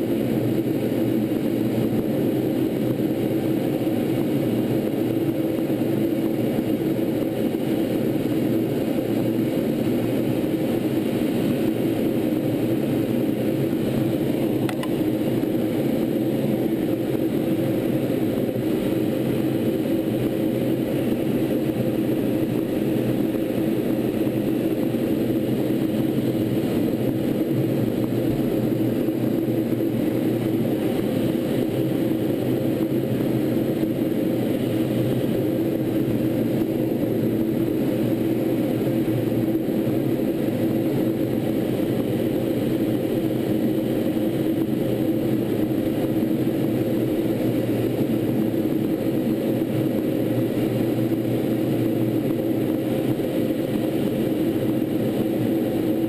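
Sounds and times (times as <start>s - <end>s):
jet engine drone in flight: 0.0s - 56.0s.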